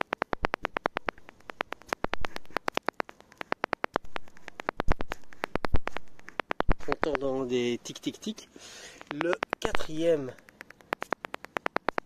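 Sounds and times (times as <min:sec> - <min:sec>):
parking sensor ticking rapidly: 0:00.0 - 0:12.0.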